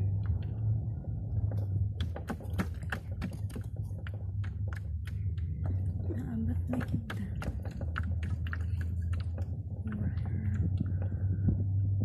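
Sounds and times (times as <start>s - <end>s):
sharp clicks and rattles: 0.0s - 11.8s.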